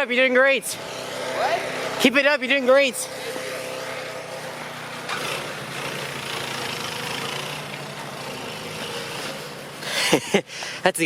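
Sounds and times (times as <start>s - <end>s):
engine running steadily: 0.6s - 10.8s.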